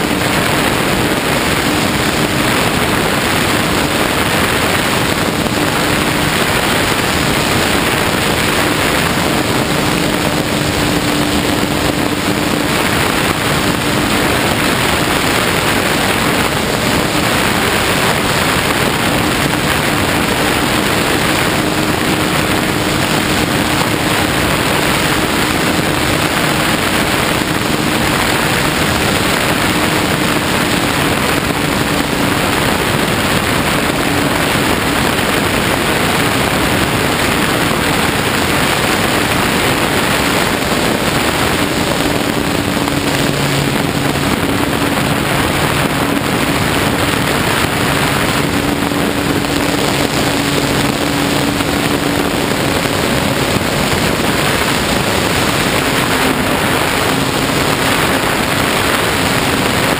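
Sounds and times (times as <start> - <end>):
motor drone: 0.0 - 59.9
propeller noise: 0.0 - 59.9
wind rushing: 0.0 - 59.9.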